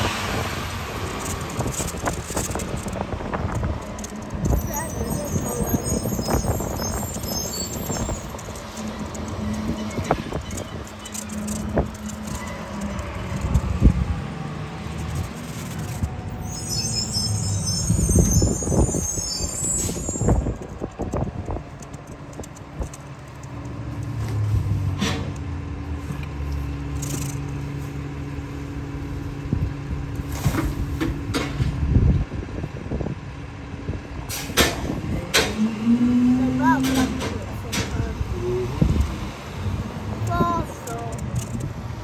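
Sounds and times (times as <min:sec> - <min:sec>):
truck engine droning: 0:00.0 - 0:42.0.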